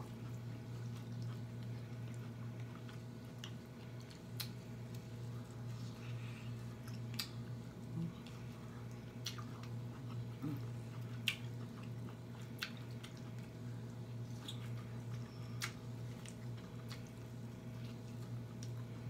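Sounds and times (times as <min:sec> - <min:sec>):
chewing and mouth smacking: 0:00.0 - 0:19.0
steady low hum: 0:00.0 - 0:19.0.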